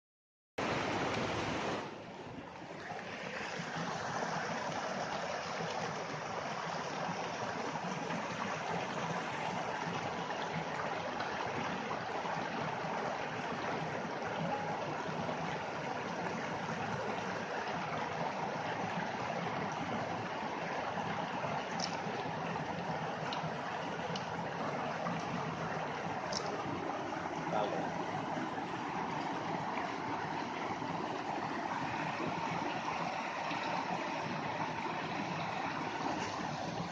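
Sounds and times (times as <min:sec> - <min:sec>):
rainwater rushing: 0:00.6 - 0:36.9.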